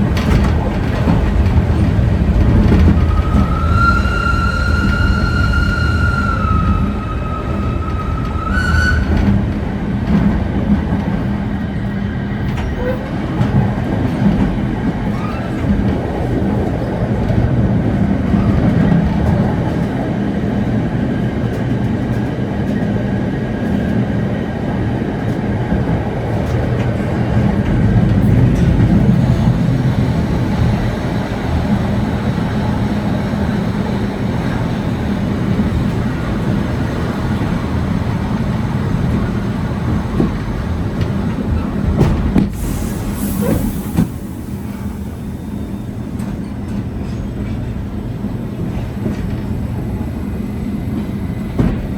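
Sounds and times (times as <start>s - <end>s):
tram wheels rumbling on rails: 0.0s - 51.9s.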